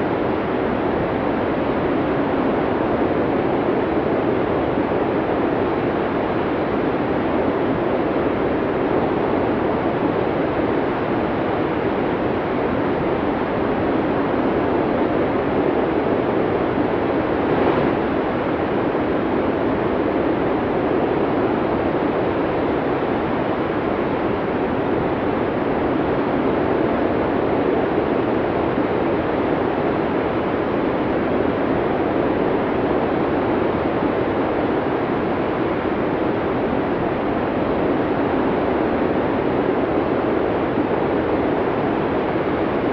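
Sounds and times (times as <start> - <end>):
snowstorm wind blowing: 0.1 - 42.9.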